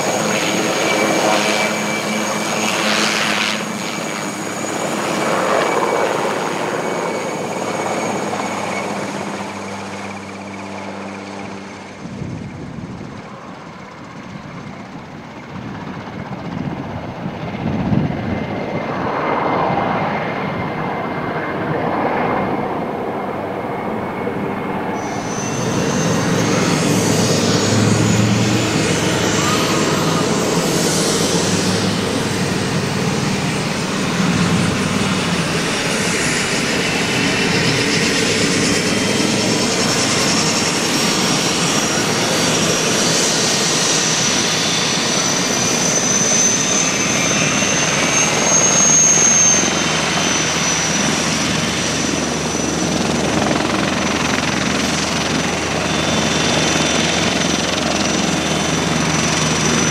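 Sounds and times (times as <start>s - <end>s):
helicopter rotor noise: 0.0s - 59.9s
high turbine whine: 0.0s - 59.9s.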